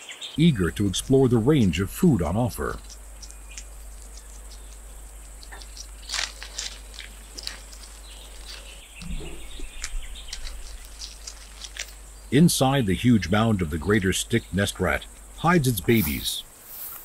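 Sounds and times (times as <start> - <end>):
faint steady hiss: 0.0 - 17.0
high chirps and clicks: 0.4 - 16.2.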